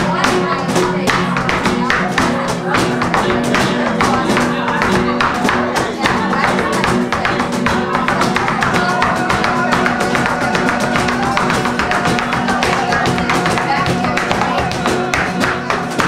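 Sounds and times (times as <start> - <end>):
acoustic flamenco guitars: 0.0 - 16.0
sharp percussive strokes: 0.2 - 16.0.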